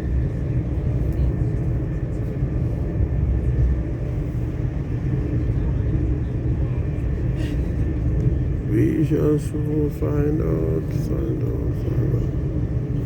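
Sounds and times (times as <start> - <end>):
train rumbling in tunnel: 0.0 - 13.0.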